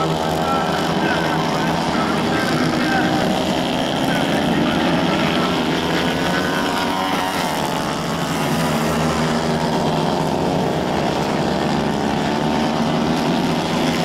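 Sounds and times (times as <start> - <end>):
racing kart engines: 0.0 - 14.0.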